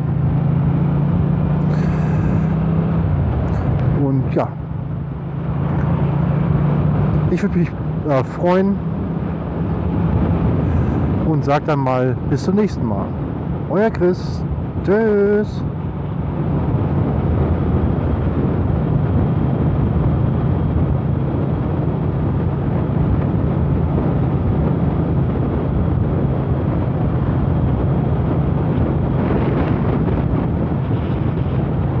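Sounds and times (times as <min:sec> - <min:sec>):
motorcycle engine cruising: 0:00.0 - 0:32.0
wind noise on microphone: 0:00.0 - 0:32.0.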